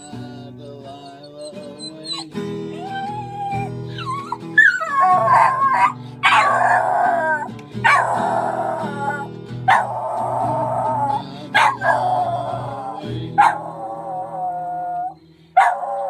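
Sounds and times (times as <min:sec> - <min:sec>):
strummed guitar chords: 0:00.0 - 0:16.0
dog howling: 0:00.9 - 0:16.0.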